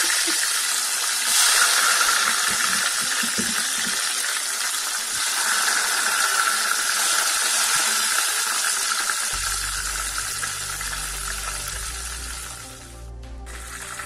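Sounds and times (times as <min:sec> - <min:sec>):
pepper sizzling in hot oil: 0:00.0 - 0:14.0.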